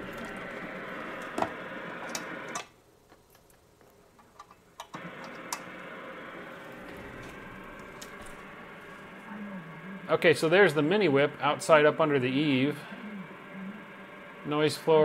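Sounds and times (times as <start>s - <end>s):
shortwave radio static hissing: 0.0s - 15.0s.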